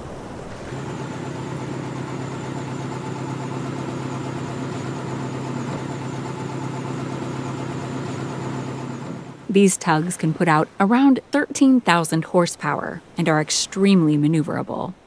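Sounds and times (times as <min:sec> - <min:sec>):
tugboat engines humming: 0:00.1 - 0:14.7.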